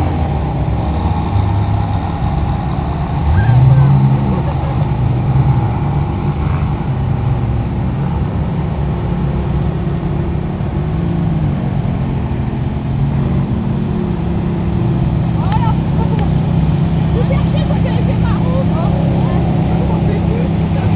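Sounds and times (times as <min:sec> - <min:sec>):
sports car engines running: 0:00.0 - 0:20.9.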